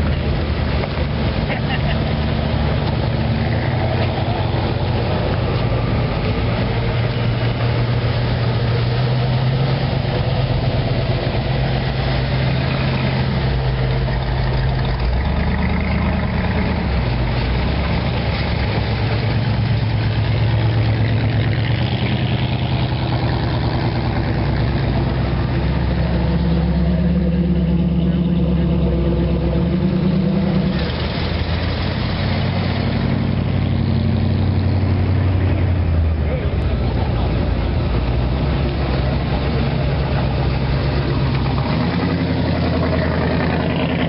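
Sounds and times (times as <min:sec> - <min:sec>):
car engines idling: 0:00.0 - 0:44.0.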